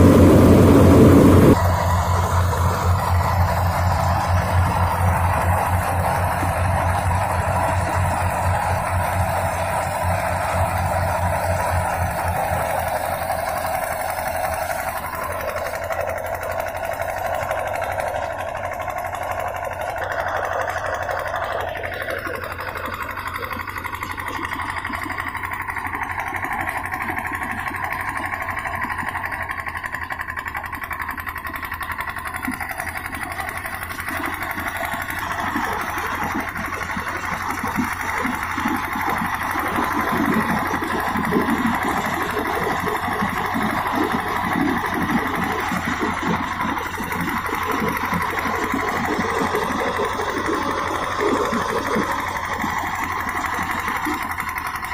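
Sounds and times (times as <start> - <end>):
threshing machine humming: 0.0 - 54.9.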